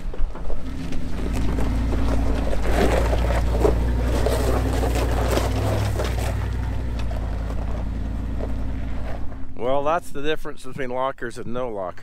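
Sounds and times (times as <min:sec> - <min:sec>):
truck engine running: 0:00.0 - 0:10.8
gravel crunching under tyres: 0:00.0 - 0:12.0.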